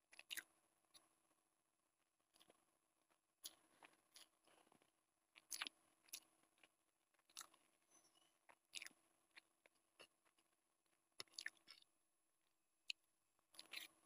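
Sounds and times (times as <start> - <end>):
chewing and mouth smacks: 0.1 - 1.1, 2.3 - 11.9, 12.9 - 14.0.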